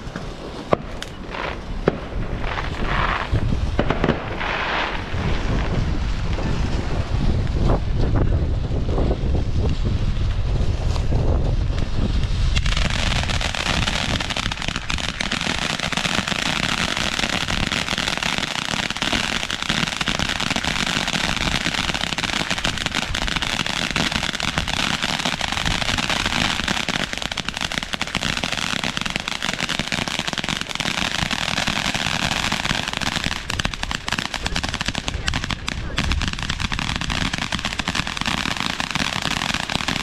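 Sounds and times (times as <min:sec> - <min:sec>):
fireworks crackling pops: 0:00.0 - 0:40.0.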